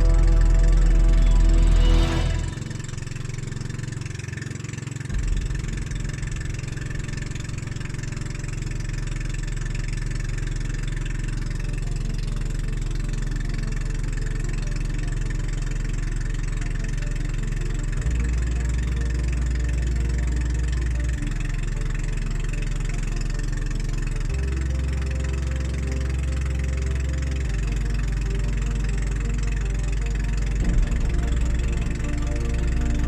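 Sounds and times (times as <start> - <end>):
engine droning: 0.0 - 33.0.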